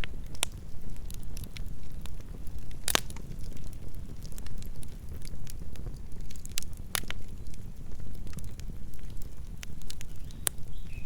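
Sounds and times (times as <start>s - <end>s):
campfire crackling and popping: 0.0s - 11.0s
low fire rumble: 0.0s - 11.0s.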